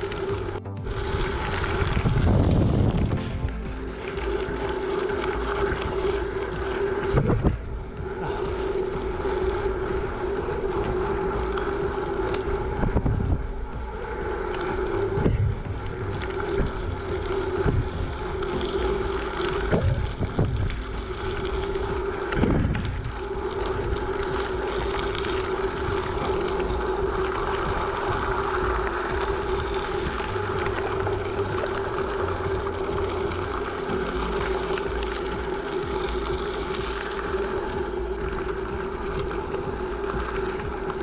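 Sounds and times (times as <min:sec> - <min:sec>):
bicycle tyres rolling on gravel: 0:00.0 - 0:41.0
steady hum: 0:00.0 - 0:41.0
wind buffeting microphone: 0:00.0 - 0:41.0.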